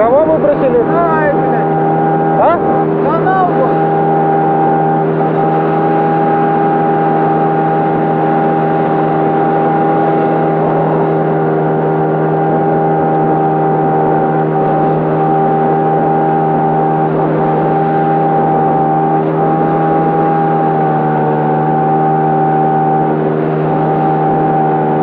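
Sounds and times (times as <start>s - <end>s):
motorboat engine running: 0.0s - 25.0s.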